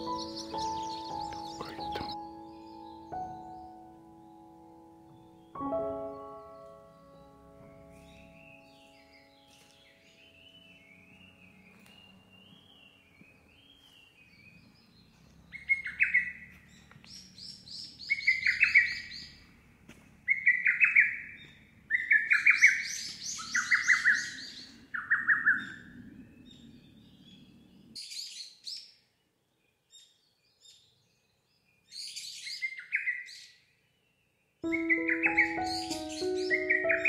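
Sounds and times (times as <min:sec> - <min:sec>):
small birds twittering: 0:00.0 - 0:37.0.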